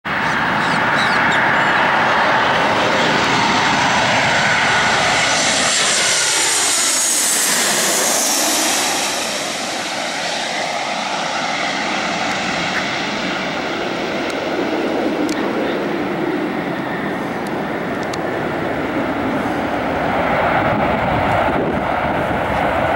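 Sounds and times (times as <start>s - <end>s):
jet airliner passing overhead: 0.0s - 22.9s.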